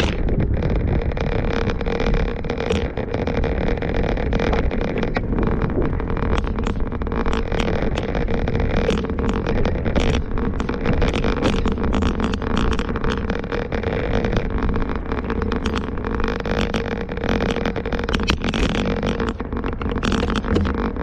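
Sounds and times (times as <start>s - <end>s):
rain ticking on microphone: 0.0s - 21.0s
wind on microphone: 0.0s - 21.0s.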